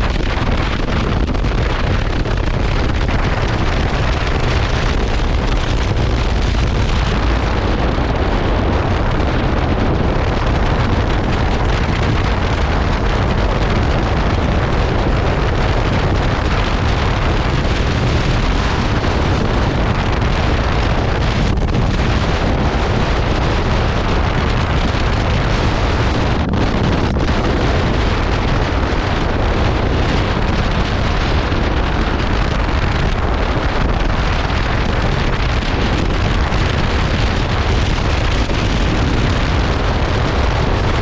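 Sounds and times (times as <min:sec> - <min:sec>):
wind rush on microphone: 0:00.0 - 0:41.0.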